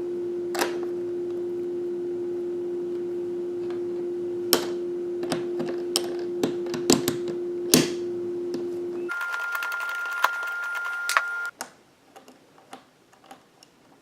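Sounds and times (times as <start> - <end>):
steady hum: 0.0 - 11.5.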